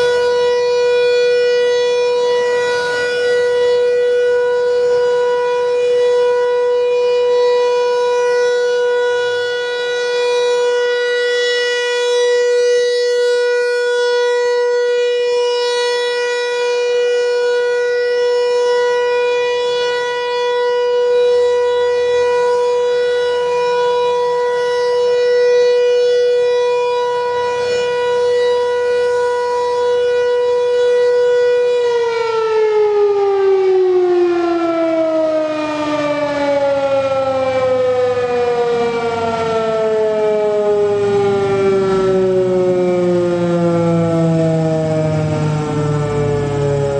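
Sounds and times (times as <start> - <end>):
outdoor warning siren: 0.0 - 46.9.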